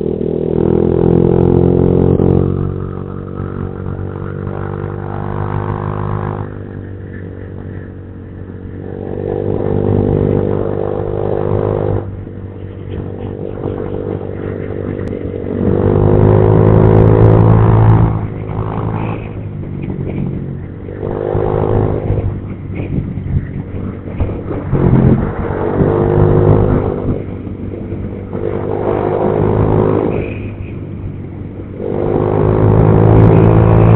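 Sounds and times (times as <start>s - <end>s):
scooter engine revving: 0.0s - 33.9s.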